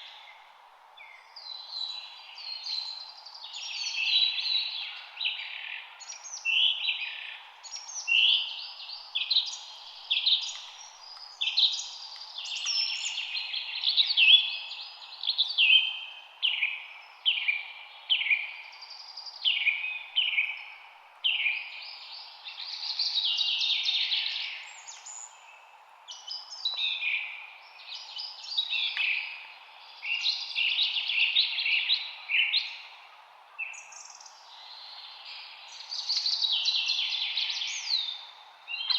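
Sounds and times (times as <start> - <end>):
faint steady hiss: 0.0 - 38.9
songbirds chirping and singing: 1.0 - 38.9.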